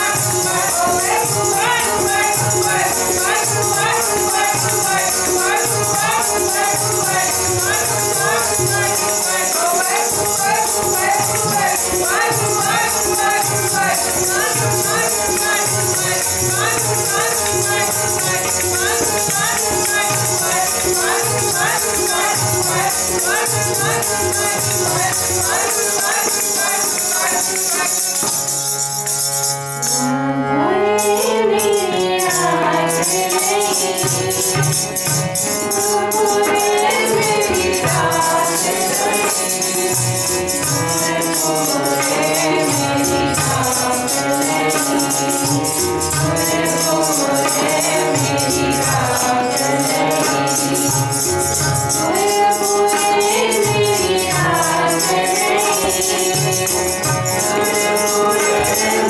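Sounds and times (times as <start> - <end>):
harmonium chords: 0.0 - 59.0
jingling hand percussion: 0.0 - 59.0.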